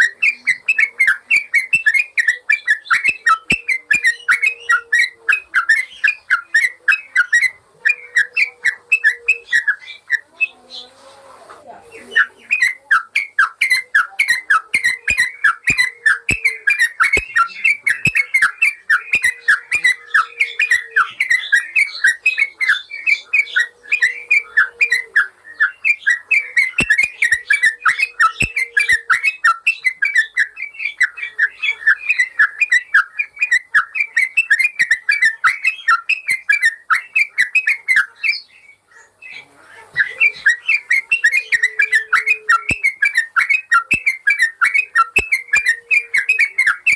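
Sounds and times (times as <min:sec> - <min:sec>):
bulbul chattering song: 0:00.0 - 0:10.9, 0:11.7 - 0:46.9.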